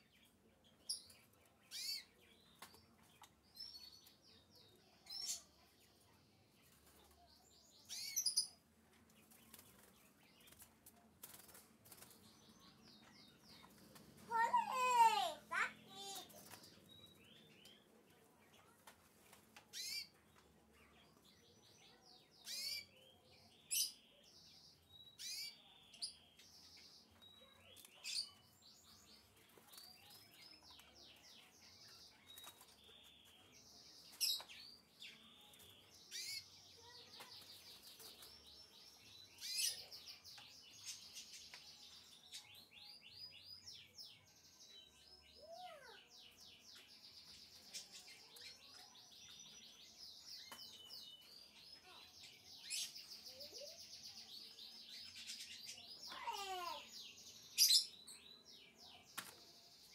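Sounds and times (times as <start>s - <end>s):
canaries chirping and trilling: 0.0s - 59.9s.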